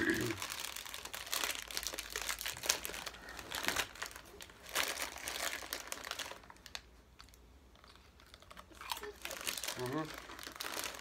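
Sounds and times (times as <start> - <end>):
chip bag crinkling: 0.0 - 11.0.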